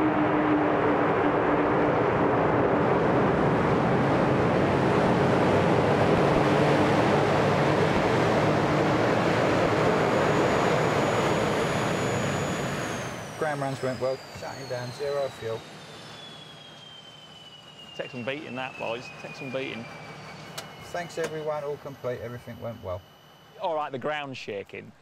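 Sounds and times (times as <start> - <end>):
jet engines roaring: 0.0 - 23.7
high engine whine: 0.0 - 24.3.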